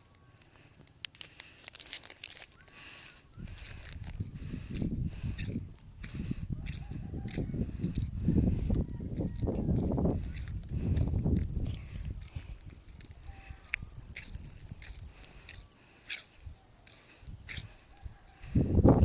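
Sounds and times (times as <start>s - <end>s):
high-pitched insect trill: 0.0s - 19.0s
wind buffeting microphone: 3.3s - 19.0s.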